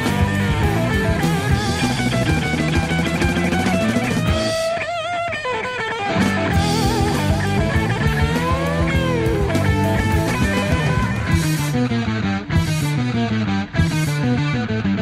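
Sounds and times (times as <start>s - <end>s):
psychedelic rock music: 0.0s - 15.0s.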